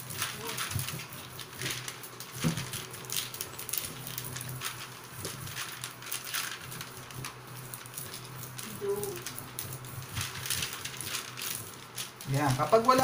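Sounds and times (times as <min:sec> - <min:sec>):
plastic sheet crinkling: 0:00.0 - 0:13.0.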